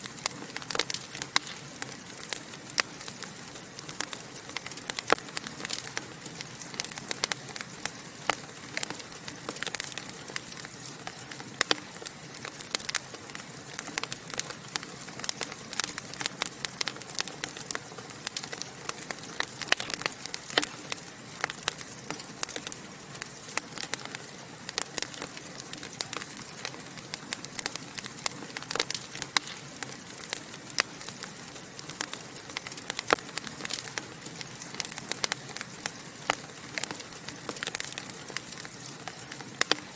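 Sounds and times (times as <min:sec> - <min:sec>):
fire crackles and pops: 0:00.0 - 0:39.9
wood fire hissing: 0:00.0 - 0:39.9.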